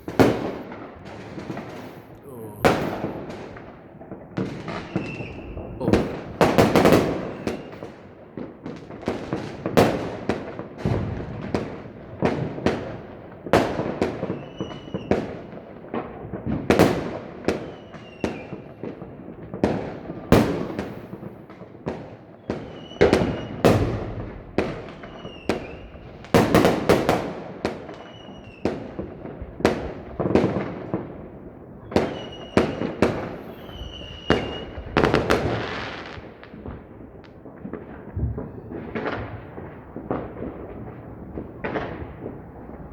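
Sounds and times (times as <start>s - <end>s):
fireworks bursting with echo: 0.0s - 42.9s.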